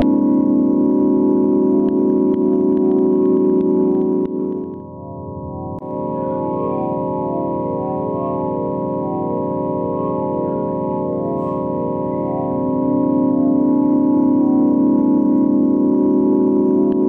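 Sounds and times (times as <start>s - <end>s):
synthesized ambient drone: 0.0s - 17.0s.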